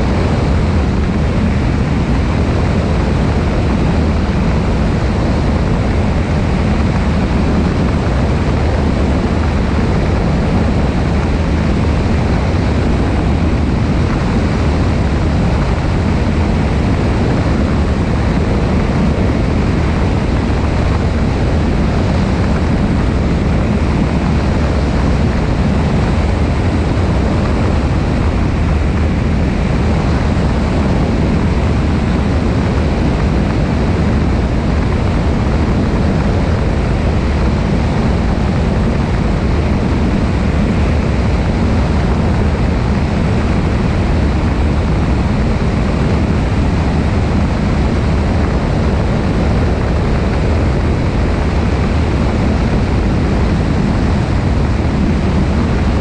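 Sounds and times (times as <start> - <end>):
propeller engine droning: 0.0 - 56.0
wind rushing: 0.0 - 56.0.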